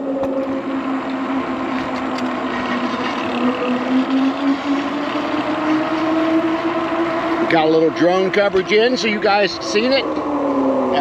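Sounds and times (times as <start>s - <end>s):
electric motor whining: 0.0s - 11.0s
steady rushing noise: 0.0s - 11.0s.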